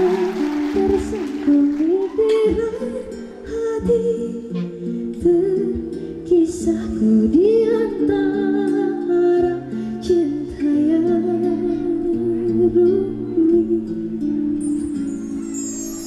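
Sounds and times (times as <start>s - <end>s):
woman singing into microphone: 0.0s - 14.5s
instrumental backing music: 0.0s - 16.0s.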